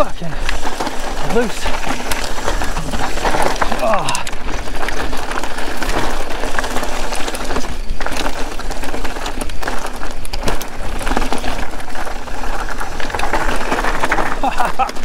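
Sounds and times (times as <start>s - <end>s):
bike knocks and rattles: 0.0s - 15.0s
tyres crunching on loose stones: 0.0s - 15.0s.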